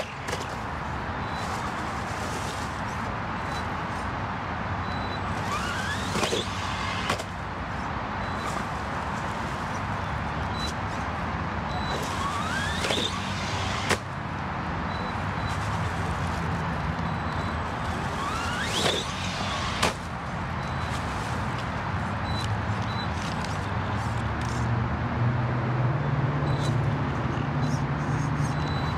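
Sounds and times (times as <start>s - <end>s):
steady background noise: 0.0s - 28.9s.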